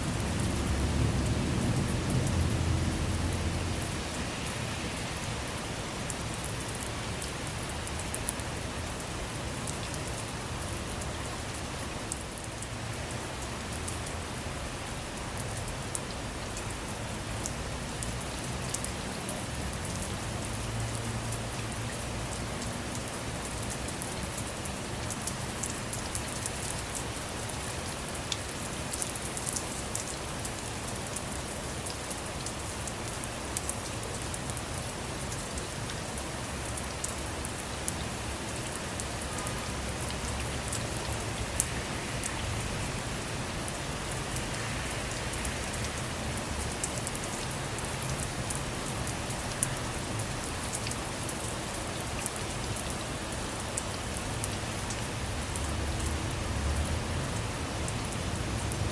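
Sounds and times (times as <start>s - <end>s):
hiss of downpour: 0.0s - 58.9s.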